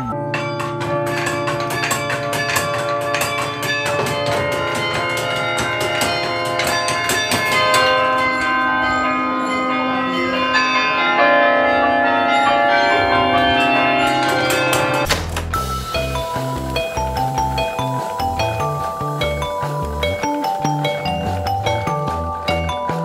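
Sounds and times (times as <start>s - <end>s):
carillon bells playing melody: 0.0s - 23.0s.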